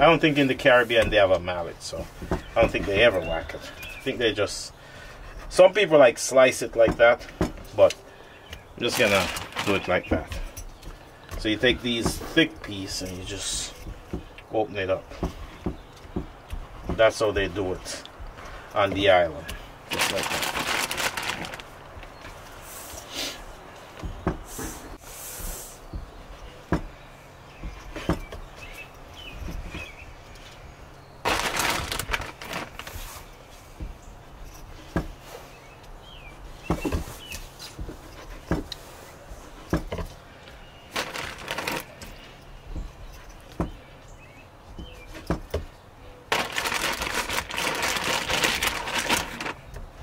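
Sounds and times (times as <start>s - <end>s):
rustling noise: 8.7s - 44.0s, 44.6s - 50.0s.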